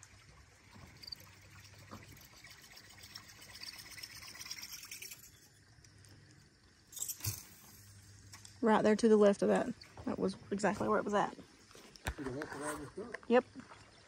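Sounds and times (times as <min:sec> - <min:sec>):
river water trickling: 0:00.0 - 0:14.0.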